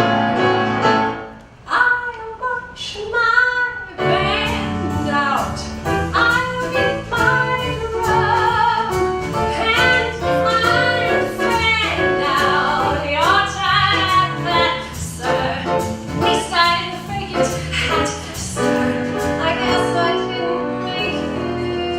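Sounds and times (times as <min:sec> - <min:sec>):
instrumental accompaniment: 0:00.0 - 0:01.6, 0:04.0 - 0:21.9.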